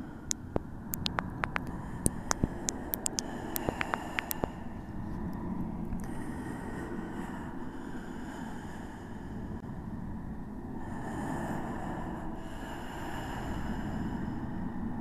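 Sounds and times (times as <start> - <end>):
rumbling drone: 0.0 - 15.0.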